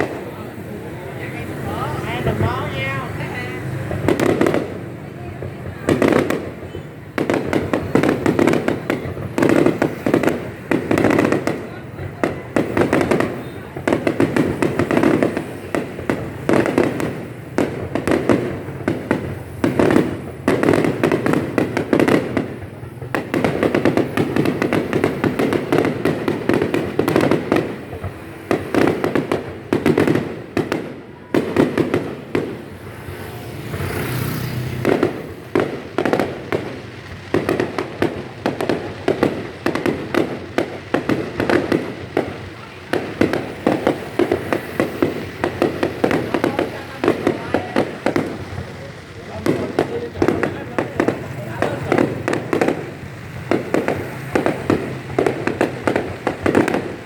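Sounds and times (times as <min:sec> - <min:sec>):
fireworks banging and crackling: 0:00.0 - 0:57.0.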